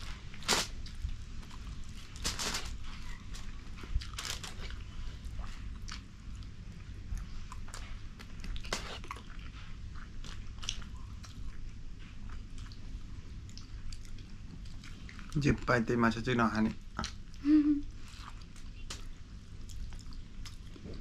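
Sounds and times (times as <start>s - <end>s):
low steady hum: 0.0s - 21.0s
person chewing food: 0.2s - 15.5s, 16.8s - 21.0s.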